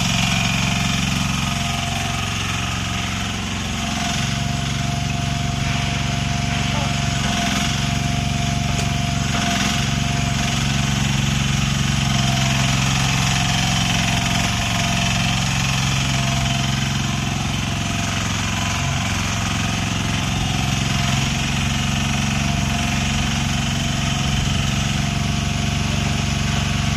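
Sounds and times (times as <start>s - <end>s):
excavator engine running: 0.0s - 26.9s.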